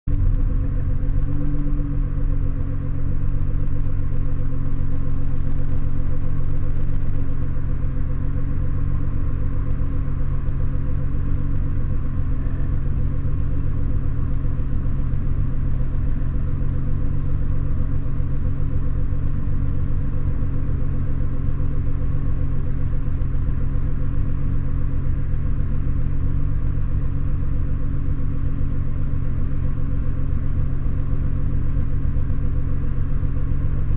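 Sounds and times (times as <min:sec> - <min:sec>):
car engine exhaust rumble: 0:00.0 - 0:33.9.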